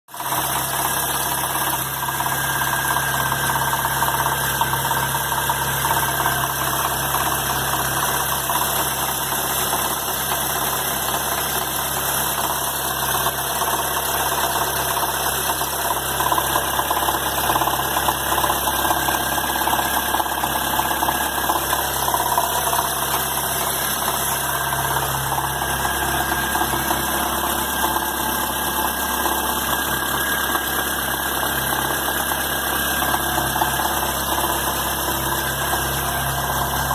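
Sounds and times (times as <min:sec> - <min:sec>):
car engine running with abnormal noise: 0:00.1 - 0:36.9.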